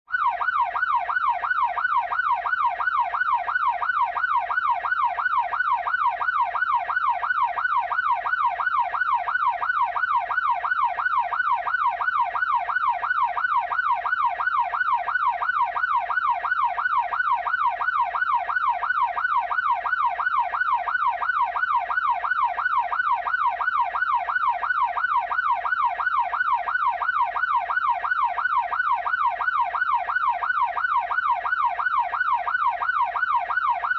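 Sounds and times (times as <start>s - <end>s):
ambulance siren yelping: 0.1s - 33.9s.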